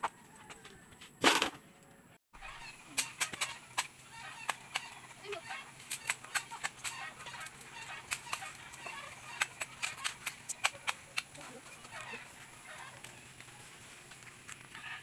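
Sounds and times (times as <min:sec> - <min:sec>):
leaves rustling: 0:02.6 - 0:15.0.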